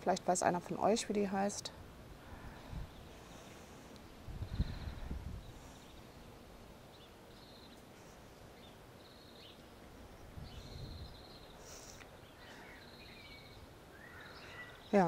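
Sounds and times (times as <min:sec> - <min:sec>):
birds chirping and trilling: 0:02.2 - 0:15.0.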